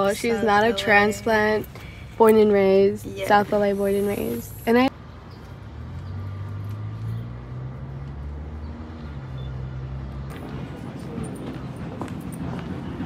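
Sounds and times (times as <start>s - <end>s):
traffic noise: 0.0s - 13.0s
vehicle engine humming: 0.0s - 13.0s.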